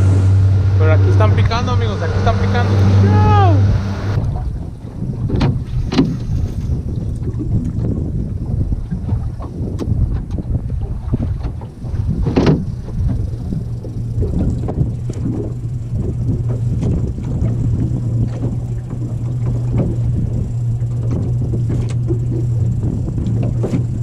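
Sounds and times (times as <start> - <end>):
motorboat engine droning: 0.0 - 24.0
water splashing against hull: 0.0 - 24.0.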